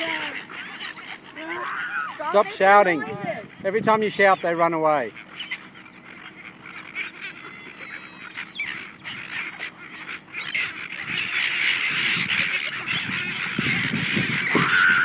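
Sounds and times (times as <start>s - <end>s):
gulls squawking: 0.0s - 15.0s.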